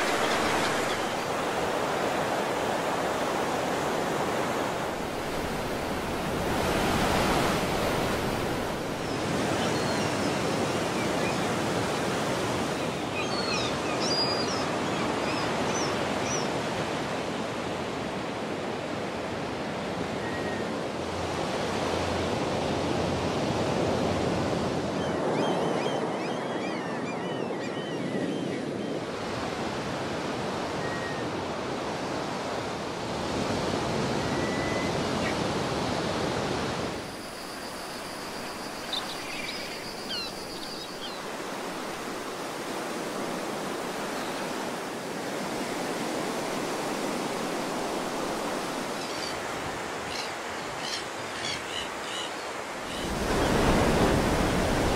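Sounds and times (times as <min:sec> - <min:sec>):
ocean surf on a beach: 0:00.0 - 0:26.8, 0:28.7 - 0:54.9.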